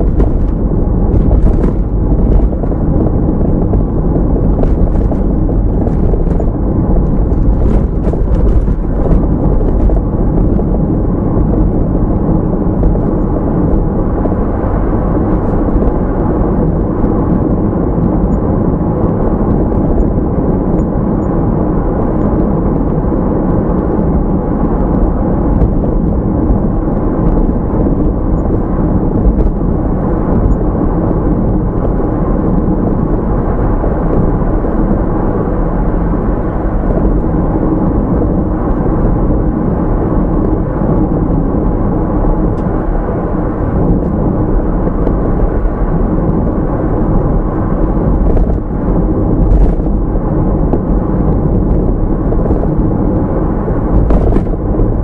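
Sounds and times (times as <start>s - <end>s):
car engine rumble: 0.0s - 55.0s.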